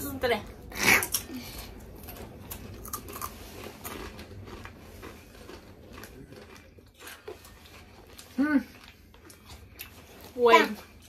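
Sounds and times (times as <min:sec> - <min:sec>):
people chewing crunchy snacks: 0:00.6 - 0:11.0.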